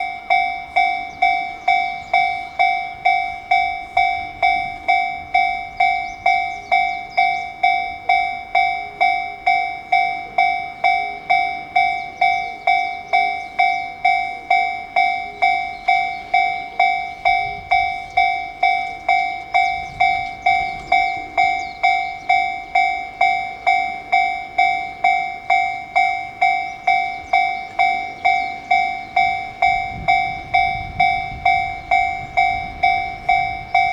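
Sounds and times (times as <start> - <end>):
level crossing alarm clanging: 0.0 - 33.9.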